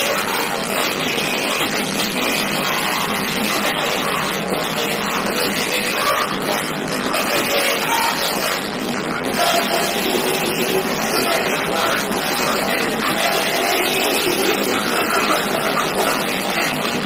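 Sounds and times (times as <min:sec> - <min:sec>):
loud distorted speaker sound: 0:00.0 - 0:17.0.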